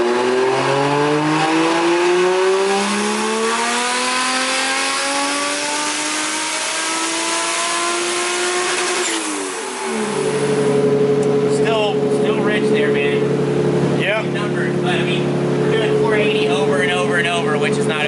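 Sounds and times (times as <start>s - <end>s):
car engine full-throttle pull: 0.0s - 18.0s.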